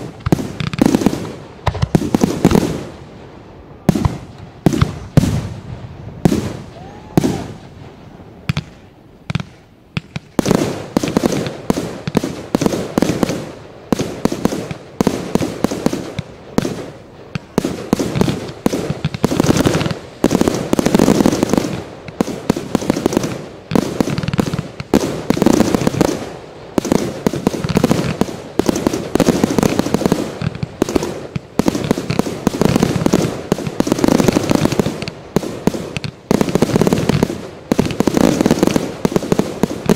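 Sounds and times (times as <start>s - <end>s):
fireworks banging: 0.0s - 39.9s.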